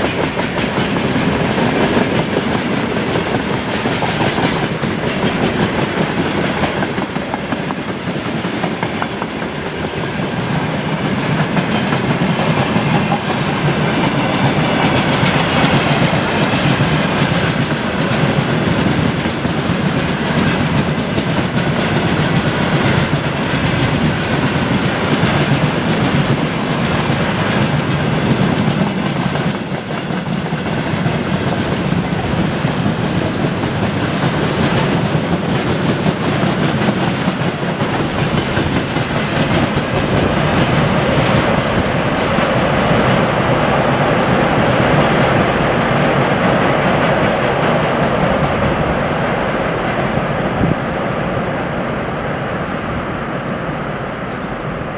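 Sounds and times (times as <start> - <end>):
train wheels clattering over rail joints: 0.0 - 50.8
rumble of train: 0.0 - 54.9.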